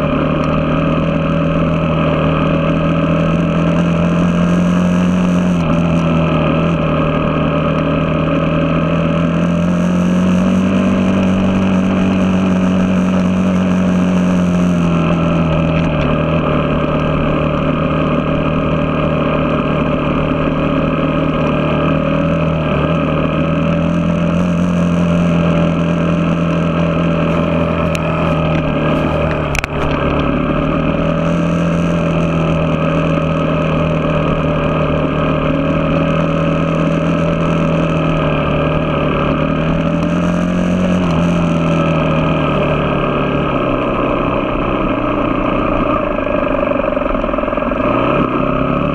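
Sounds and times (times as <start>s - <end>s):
motocross bike engine running: 0.0s - 48.9s.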